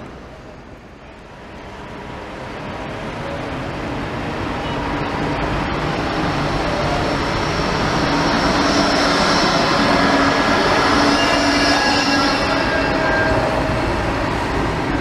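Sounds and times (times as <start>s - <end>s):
tram passing on track: 0.0s - 15.0s
tram whine: 0.0s - 15.0s.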